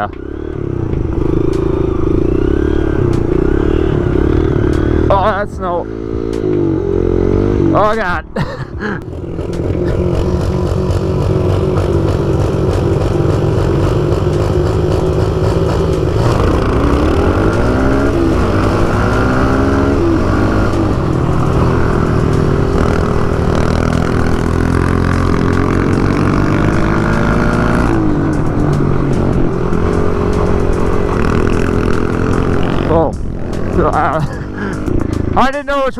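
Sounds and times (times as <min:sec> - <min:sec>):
small motorbike engine revving: 0:00.0 - 0:07.8, 0:09.1 - 0:35.2.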